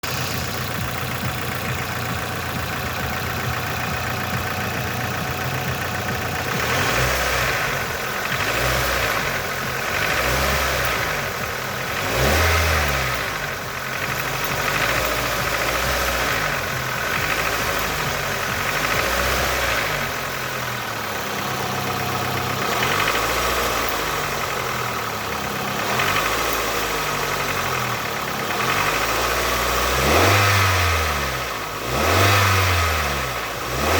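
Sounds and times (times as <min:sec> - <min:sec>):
car engine idling and revving: 0:00.0 - 0:33.9
engine knocking: 0:00.0 - 0:33.9.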